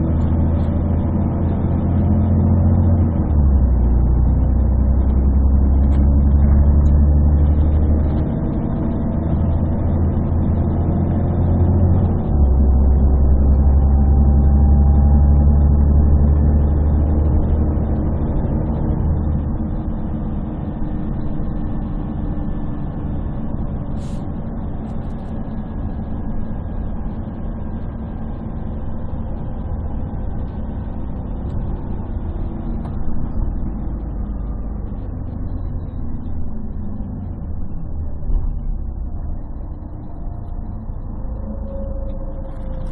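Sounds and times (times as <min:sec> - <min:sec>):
bus diesel engine humming: 0:00.0 - 0:42.9.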